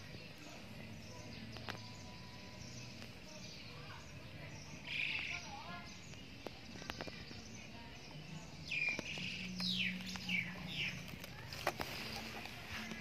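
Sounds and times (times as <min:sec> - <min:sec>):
bird chirping: 0:00.0 - 0:13.0
faint low hum: 0:00.0 - 0:13.0.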